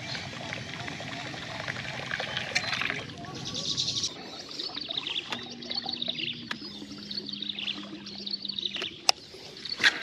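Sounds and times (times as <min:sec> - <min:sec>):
birds chirping and trilling: 0:00.0 - 0:10.0
low hum: 0:00.0 - 0:10.0.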